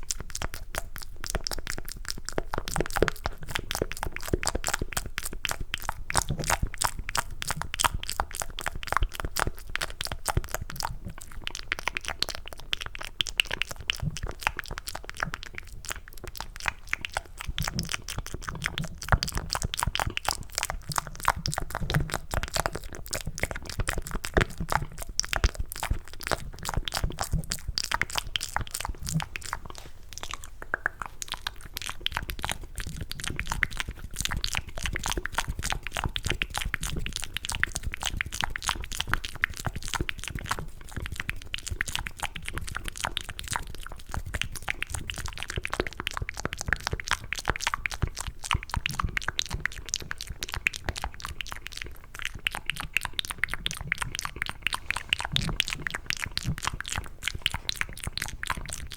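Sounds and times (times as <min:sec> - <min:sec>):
wet mouth clicks and smacks: 0:00.0 - 0:58.9.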